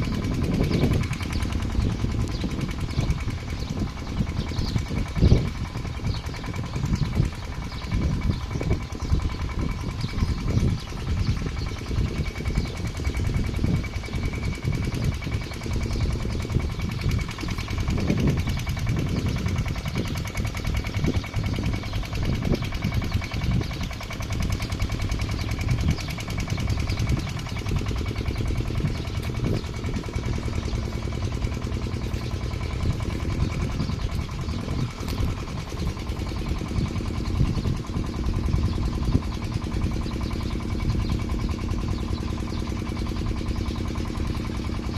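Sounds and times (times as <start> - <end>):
pump engine running steadily: 0.0 - 44.9.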